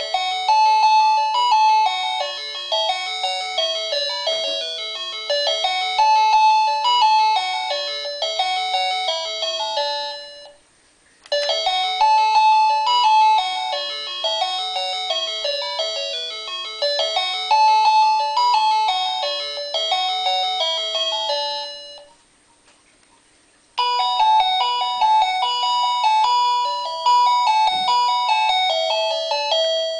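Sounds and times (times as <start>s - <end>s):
doorbell chime melodies: 0.0s - 10.6s, 11.3s - 22.2s, 23.8s - 29.9s.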